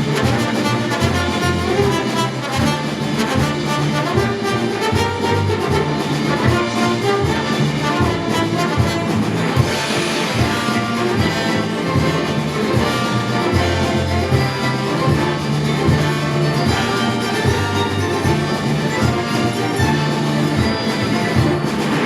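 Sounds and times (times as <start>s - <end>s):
brass section: 0.0s - 22.0s
symphony orchestra playing film music: 0.0s - 22.0s.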